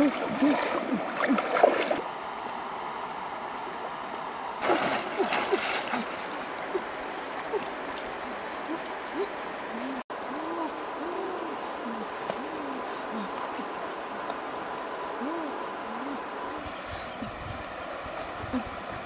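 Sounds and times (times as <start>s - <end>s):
person wading through water: 0.0s - 2.0s, 4.6s - 19.0s
stream flowing: 0.0s - 19.0s.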